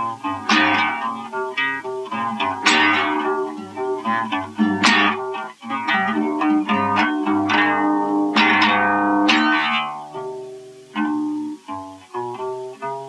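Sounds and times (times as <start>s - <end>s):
acoustic guitar strummed chords: 0.0s - 13.0s
guitar picked single notes: 0.0s - 13.0s.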